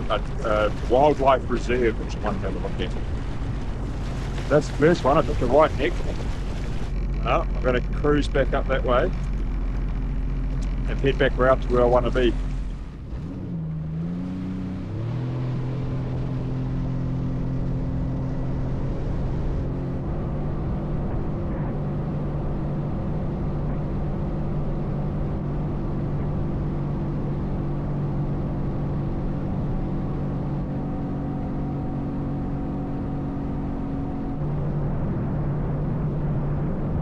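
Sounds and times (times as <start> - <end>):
jet ski engine: 0.0 - 37.0.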